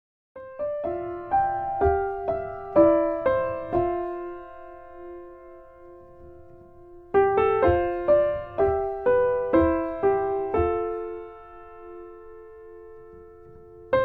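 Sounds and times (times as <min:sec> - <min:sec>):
gentle solo piano: 0:00.4 - 0:14.0.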